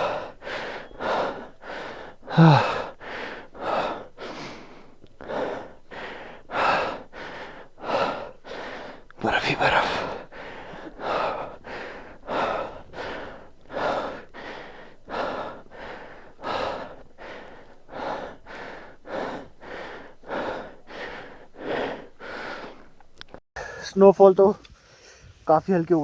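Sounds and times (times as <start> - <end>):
person breathing hard: 0.0 - 23.9.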